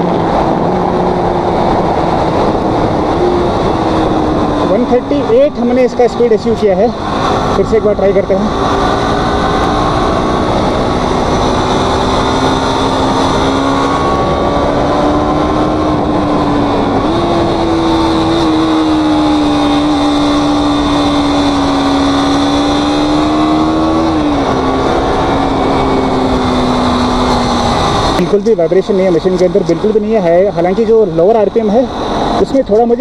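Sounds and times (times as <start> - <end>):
motorcycle engine running: 0.0 - 33.0
wind rush: 0.0 - 33.0.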